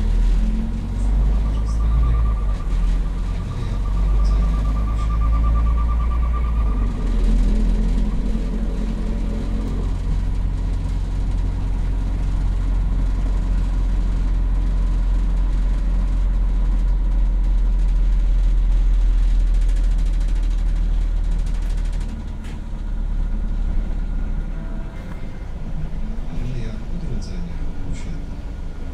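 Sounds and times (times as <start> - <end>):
bus diesel engine drone: 0.0 - 28.9
road rumble: 0.0 - 28.9.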